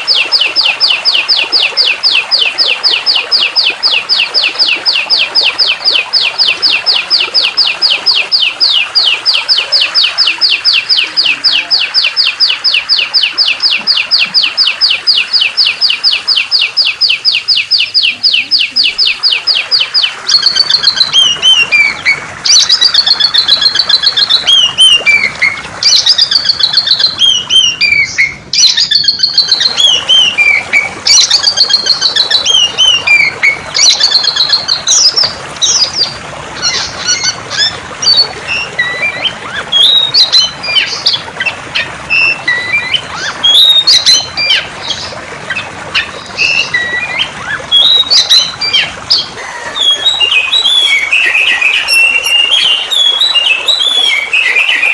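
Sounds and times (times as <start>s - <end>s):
flowing water rushing: 0.0s - 54.9s
songbird singing trilled phrases: 0.0s - 54.9s
bird chirps and whistles: 3.8s - 41.2s, 42.1s - 45.0s, 46.0s - 54.9s.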